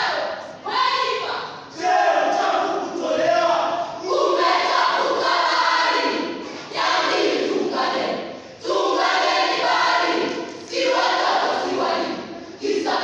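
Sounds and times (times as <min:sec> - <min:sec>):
students chanting in unison: 0:00.0 - 0:13.0.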